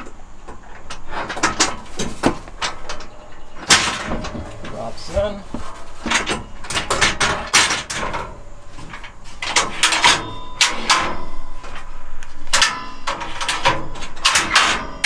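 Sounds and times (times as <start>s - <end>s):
metal bunk frame knocks and rattles: 0.0s - 11.9s, 12.5s - 15.0s.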